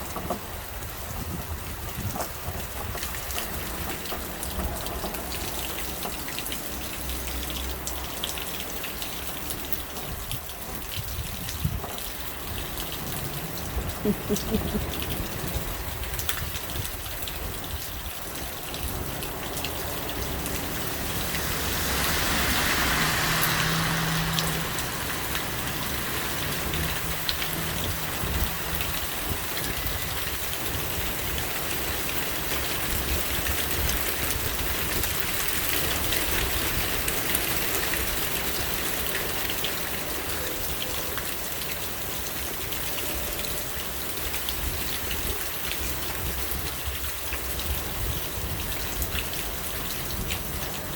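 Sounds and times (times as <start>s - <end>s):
wind rumbling on microphone: 0.0s - 5.5s, 9.8s - 39.1s, 44.2s - 50.9s
steady rain falling: 0.0s - 50.9s.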